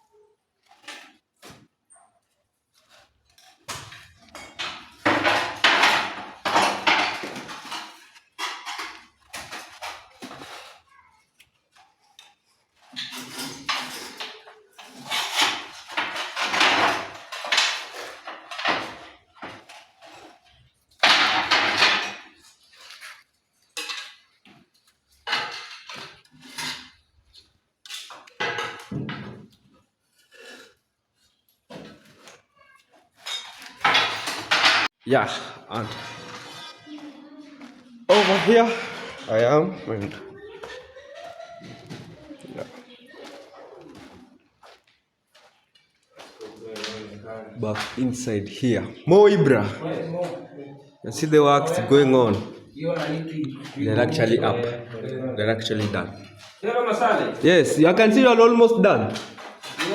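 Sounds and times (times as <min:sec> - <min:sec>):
tools scraping and clinking on tiles: 0:00.0 - 0:59.9.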